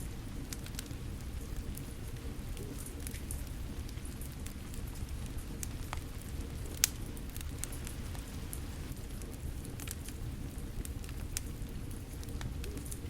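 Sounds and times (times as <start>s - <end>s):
falling rain: 0.0s - 13.0s
wood fire crackling and popping: 0.0s - 13.0s.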